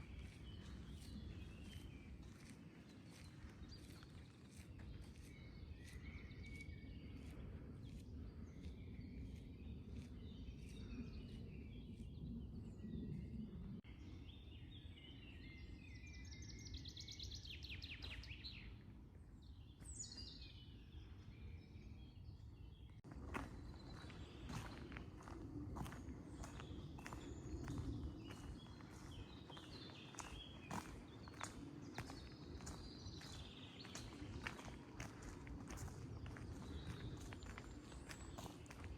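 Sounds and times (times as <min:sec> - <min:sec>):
songbirds singing and calling: 0:00.0 - 0:38.9.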